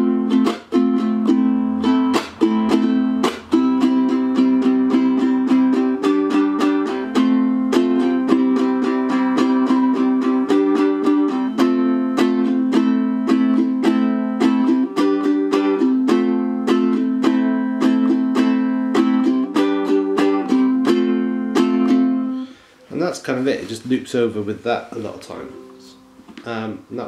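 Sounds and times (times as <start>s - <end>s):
ukulele strummed: 0.0s - 22.5s, 24.2s - 26.8s.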